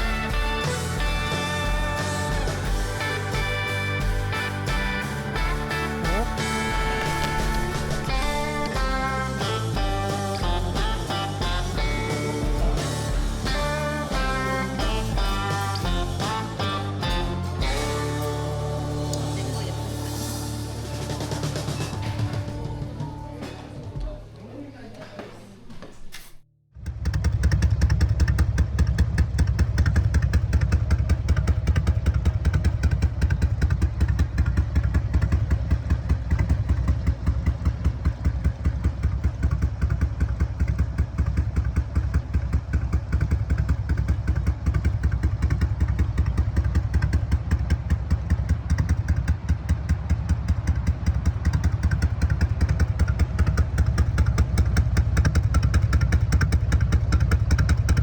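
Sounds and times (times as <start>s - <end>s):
motorcycle engine running: 0.0s - 24.2s, 26.8s - 58.0s.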